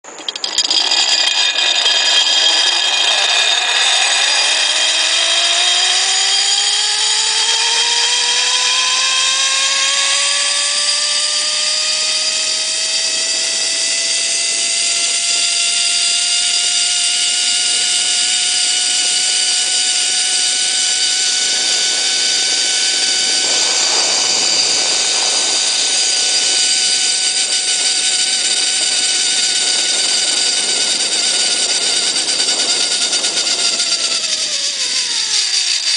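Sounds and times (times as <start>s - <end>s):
zip line pulley whine: 0.0s - 35.9s.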